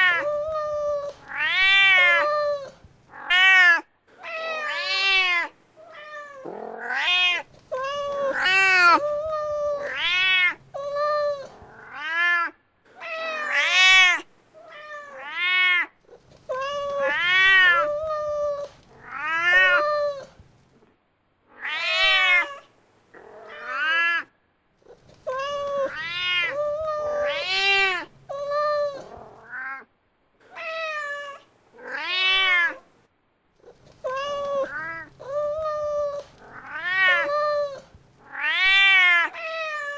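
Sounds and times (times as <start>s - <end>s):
cat meowing: 0.0s - 20.4s, 21.5s - 24.3s, 24.9s - 29.9s, 30.5s - 32.9s, 33.6s - 39.9s.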